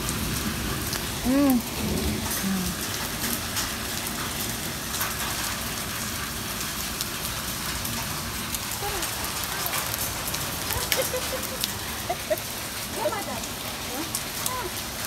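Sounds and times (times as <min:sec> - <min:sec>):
rain and hail on stone paving: 0:00.0 - 0:15.0.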